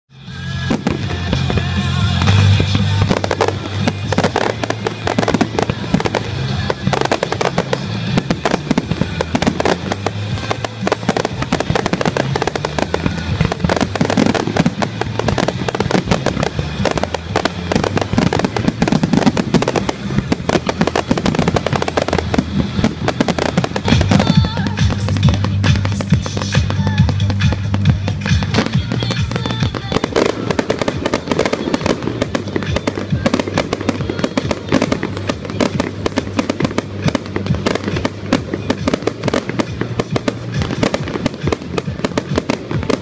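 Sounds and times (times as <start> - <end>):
music playing: 0.1 - 43.0
fireworks cracking and banging: 0.2 - 43.0.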